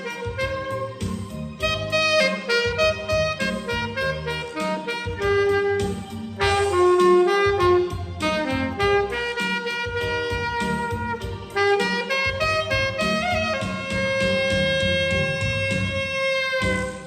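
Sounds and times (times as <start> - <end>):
low accompaniment: 0.0 - 17.0
saxophone melody: 0.0 - 17.0.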